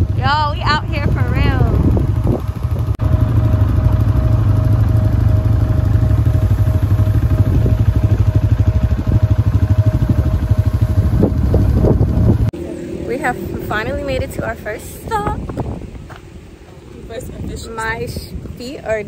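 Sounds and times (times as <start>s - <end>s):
quad engine rumbling: 0.0s - 19.0s.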